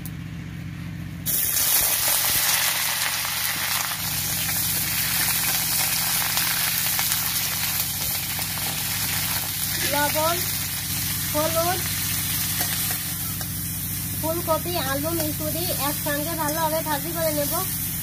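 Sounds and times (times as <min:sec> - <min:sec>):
vegetables sizzling in hot oil: 0:01.2 - 0:18.0.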